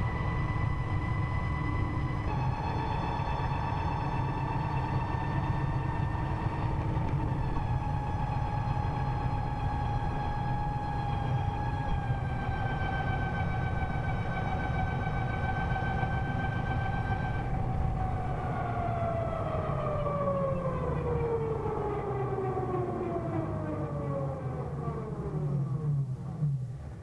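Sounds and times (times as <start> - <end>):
electric scooter gear whining: 0.0 - 27.0
road and wind noise: 0.0 - 27.0.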